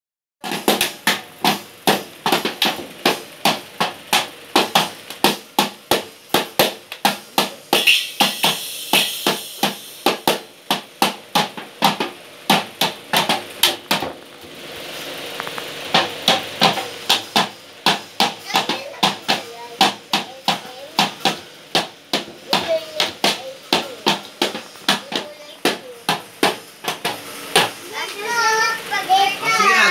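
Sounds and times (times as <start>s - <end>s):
toy drums hit with sticks: 0.4s - 14.2s, 15.5s - 27.8s.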